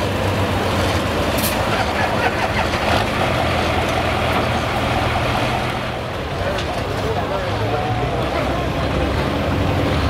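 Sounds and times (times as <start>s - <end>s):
diesel engine idling: 0.0s - 9.9s.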